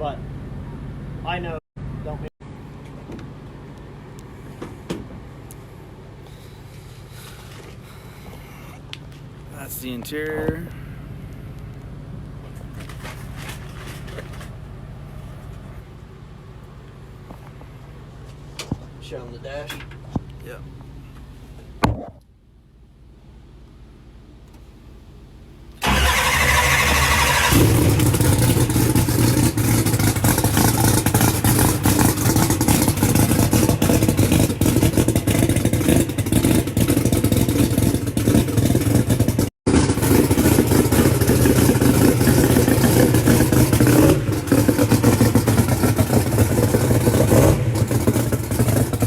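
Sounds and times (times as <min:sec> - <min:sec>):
race car engine idling: 0:00.1 - 0:19.2, 0:24.0 - 0:49.0.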